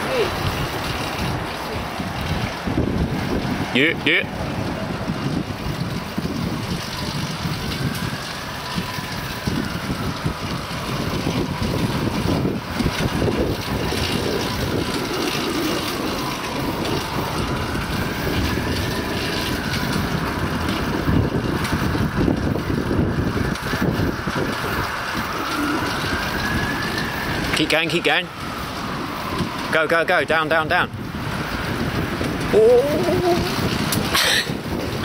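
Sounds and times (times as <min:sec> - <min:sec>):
bicycle tyres rolling on concrete: 0:00.0 - 0:35.0
wind buffeting microphone: 0:00.0 - 0:35.0.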